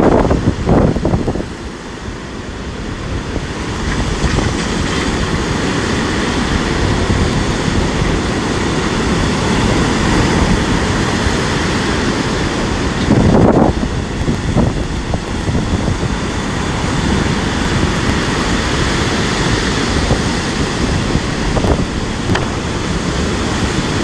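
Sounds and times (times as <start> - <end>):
storm surf: 0.0 - 24.0
wind rumbling on microphone: 0.0 - 24.0.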